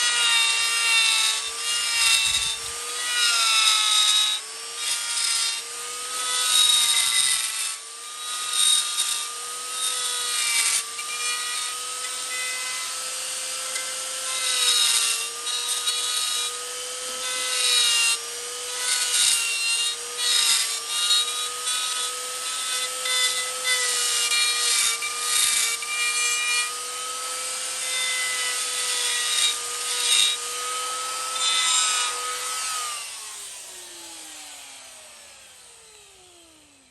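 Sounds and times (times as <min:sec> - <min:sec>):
wood rasping: 0:00.0 - 0:33.6
power tool motor whine: 0:00.0 - 0:36.9.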